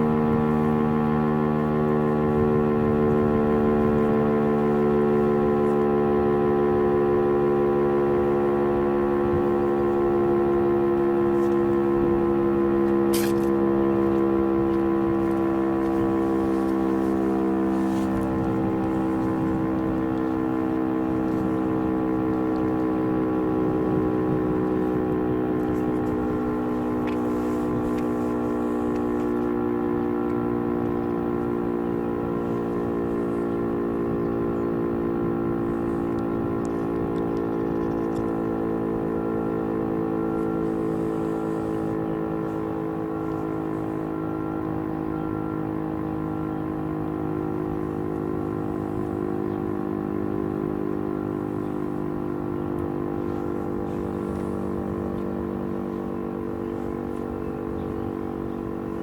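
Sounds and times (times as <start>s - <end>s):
dual-tone warning siren: 0.0s - 59.0s.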